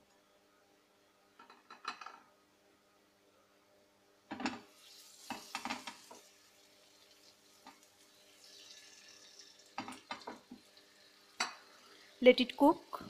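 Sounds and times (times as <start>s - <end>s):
soft sizzle of frying: 0.0s - 13.0s.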